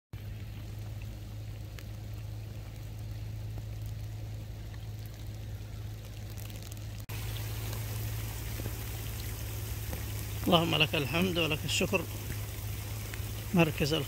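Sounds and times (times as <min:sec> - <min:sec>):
rain falling into water: 0:00.2 - 0:14.0
steady low hum: 0:00.2 - 0:14.0.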